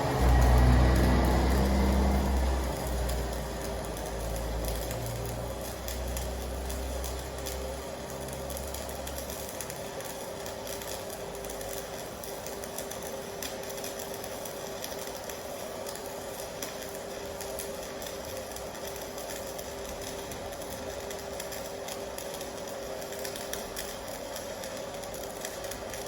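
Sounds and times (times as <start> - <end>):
welding arc crackling and hissing: 0.0 - 26.0.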